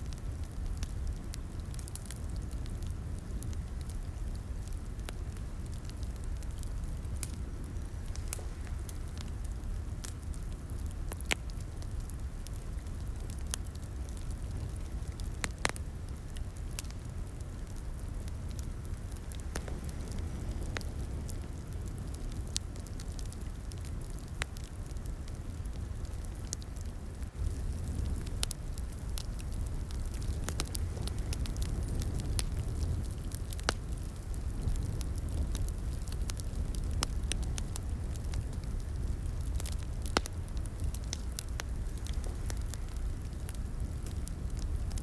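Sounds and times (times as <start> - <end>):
fire pops and snaps: 0.0 - 45.0
wood fire crackling: 0.0 - 45.0.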